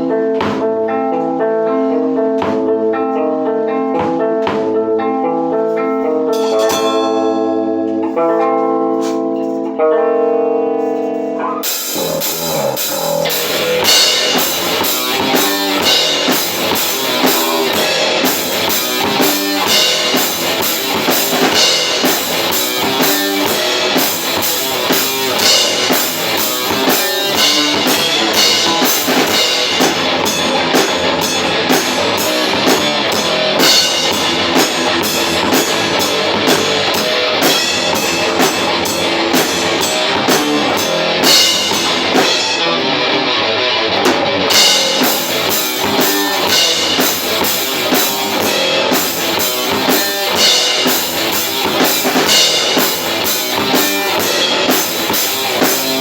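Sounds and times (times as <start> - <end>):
guitar playing: 0.0 - 56.0
metal band playing: 0.0 - 56.0
drum kit with cymbal hits: 0.1 - 1.0, 2.3 - 2.9, 3.9 - 4.8, 5.7 - 9.7, 10.8 - 56.0.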